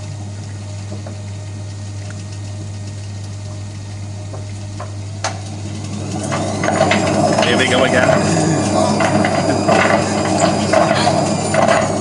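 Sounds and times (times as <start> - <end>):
drain pump humming: 0.0 - 12.0.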